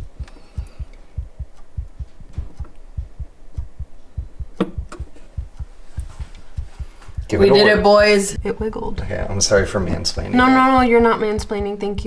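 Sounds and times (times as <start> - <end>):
faint clicks: 0.0 - 12.0
fast low thumping beat: 0.0 - 12.0.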